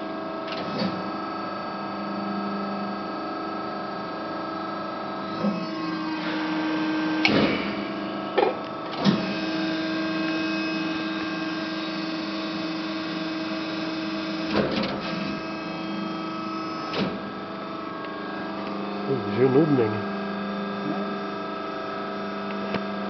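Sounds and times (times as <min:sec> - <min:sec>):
hydraulic pump humming: 0:00.0 - 0:23.0.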